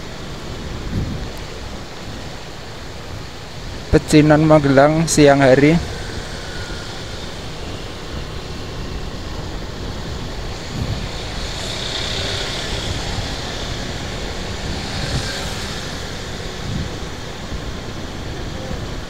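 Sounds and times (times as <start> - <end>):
motor traffic drone: 0.0 - 19.0
motorcycles riding: 0.0 - 19.0.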